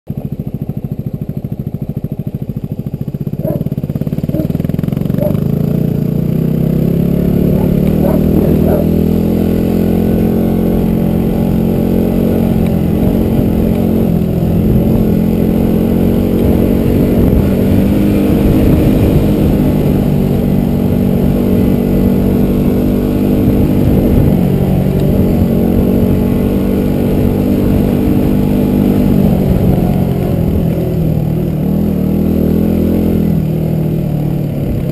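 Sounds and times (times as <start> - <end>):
vehicle engine running under load: 0.1 - 34.9.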